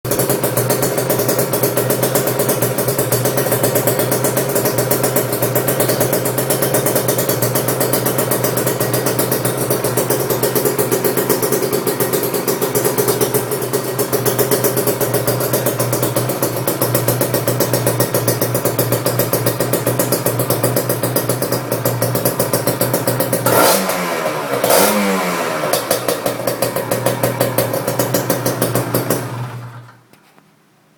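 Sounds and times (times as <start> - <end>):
motorcycle engine idling: 0.1 - 30.1.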